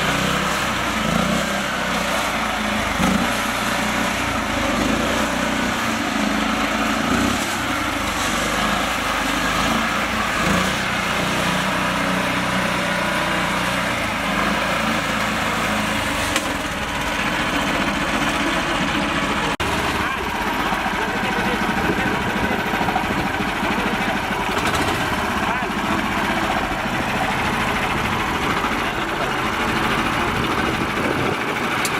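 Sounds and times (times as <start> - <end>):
small tractor engine running: 0.0 - 31.9.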